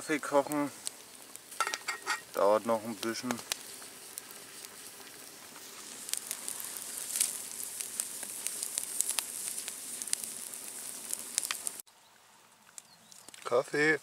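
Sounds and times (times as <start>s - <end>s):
sausages sizzling on grate: 0.0s - 11.9s
campfire crackling and popping: 0.0s - 14.0s.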